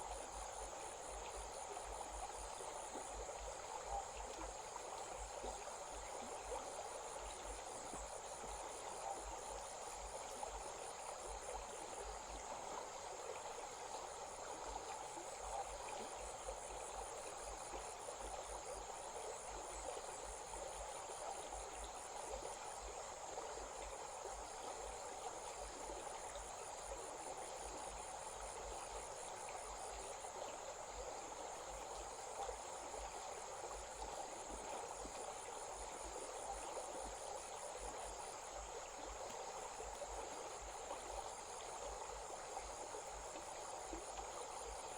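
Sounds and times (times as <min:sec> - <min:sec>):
stream flowing: 0:00.0 - 0:44.9.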